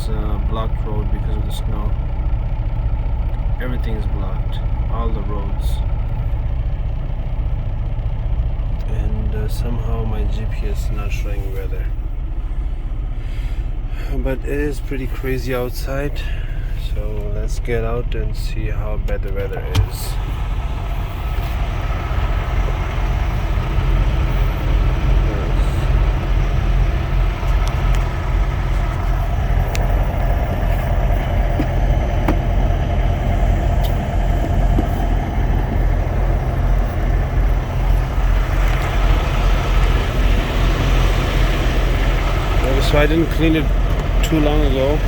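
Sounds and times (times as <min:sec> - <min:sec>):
idling vehicle engines: 0:00.0 - 0:45.0.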